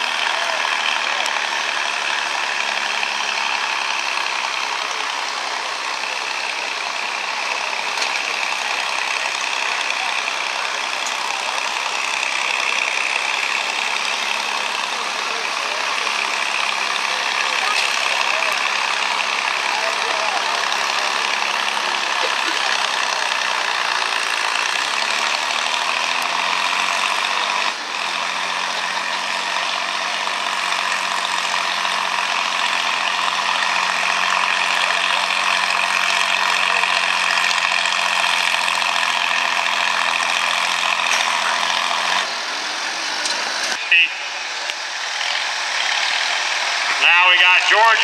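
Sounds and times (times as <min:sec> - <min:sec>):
tractor engine at full throttle: 0:00.0 - 0:48.0.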